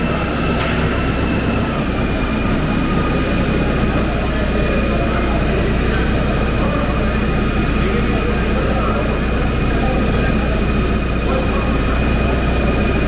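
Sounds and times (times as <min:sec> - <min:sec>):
chatter of visitors: 0:00.0 - 0:13.0
steady low hum: 0:00.0 - 0:13.0.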